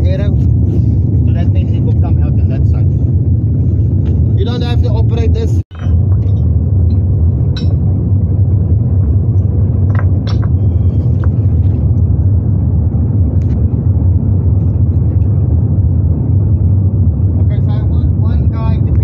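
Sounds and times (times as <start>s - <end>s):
engine rumbling under load: 0.0s - 19.0s.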